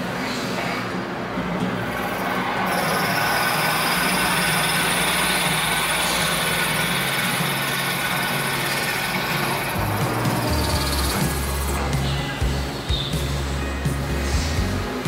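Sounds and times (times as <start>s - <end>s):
machine hum: 0.0s - 15.0s
metal cutting noise: 0.0s - 15.0s.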